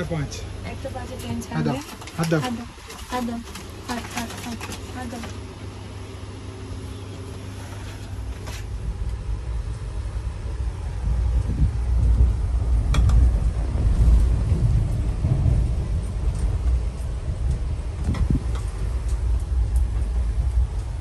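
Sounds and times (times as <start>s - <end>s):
moving vehicle rumble: 0.0s - 21.0s.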